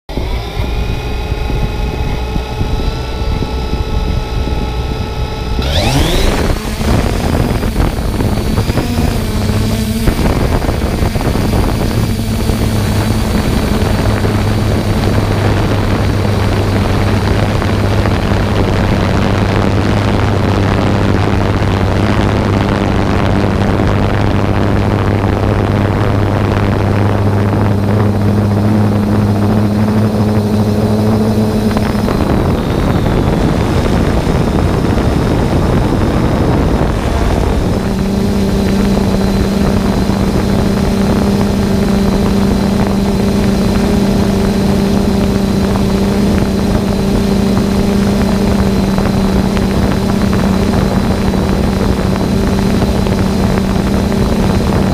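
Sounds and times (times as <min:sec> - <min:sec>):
drone propellers whirring: 0:00.1 - 0:54.9.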